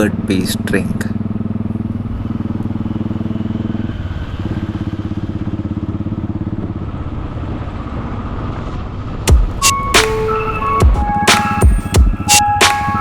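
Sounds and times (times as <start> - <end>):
motorcycle engine running: 0.0 - 8.3, 10.8 - 13.0.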